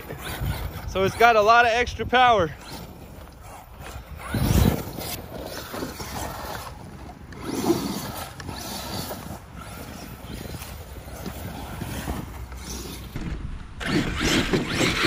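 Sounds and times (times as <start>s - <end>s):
rc truck motor whining: 0.0s - 15.0s
tyres on loose dirt: 0.0s - 15.0s.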